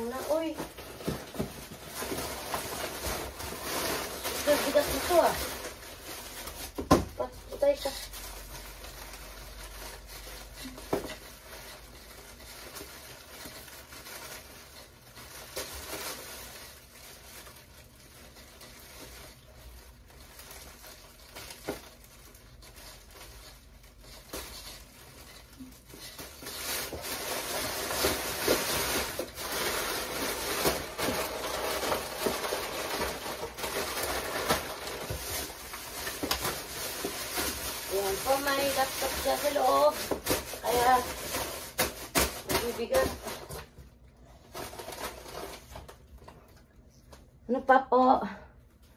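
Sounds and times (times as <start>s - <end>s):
plastic bags crinkling: 0.0s - 46.2s.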